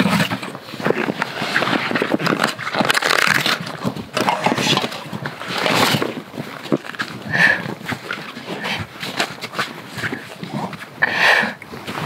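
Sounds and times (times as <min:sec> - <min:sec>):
snow crunching and scraping: 0:00.0 - 0:12.0.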